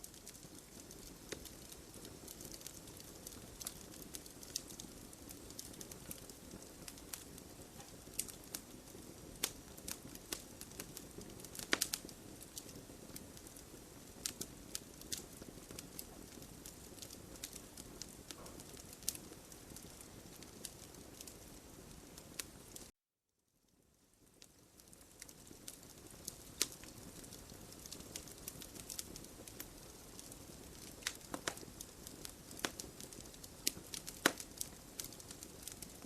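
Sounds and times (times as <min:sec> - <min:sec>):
fire crackling and popping: 0:00.0 - 0:22.9, 0:23.7 - 0:36.0.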